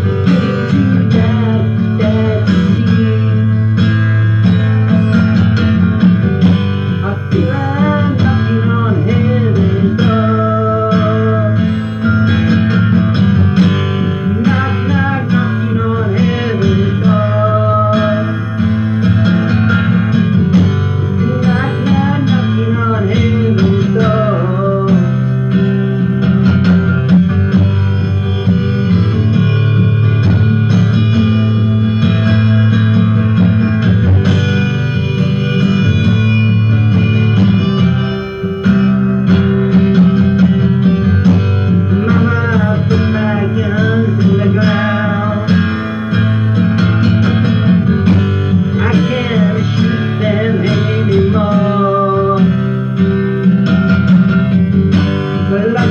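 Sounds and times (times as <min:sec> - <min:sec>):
acoustic guitar strumming: 0:00.0 - 0:55.9.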